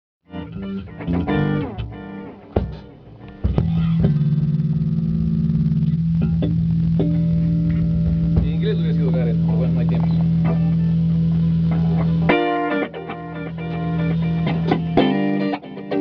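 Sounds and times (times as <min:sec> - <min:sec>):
bass guitar notes: 0:00.2 - 0:16.0
electric guitar notes: 0:00.3 - 0:16.0.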